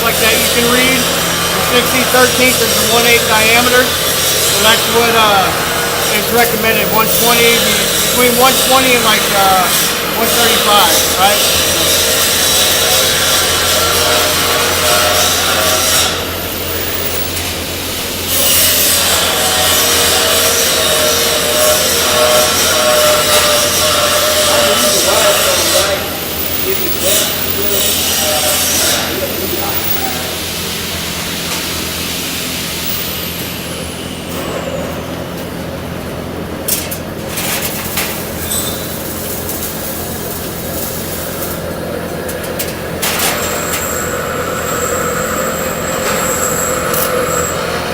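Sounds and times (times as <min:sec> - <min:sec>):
welding arc crackling: 0:00.0 - 0:33.8, 0:36.6 - 0:47.9.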